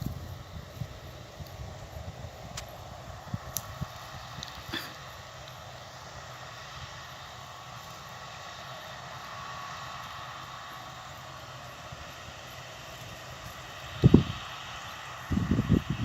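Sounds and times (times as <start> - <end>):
distant combine harvester drone: 0.0 - 16.0.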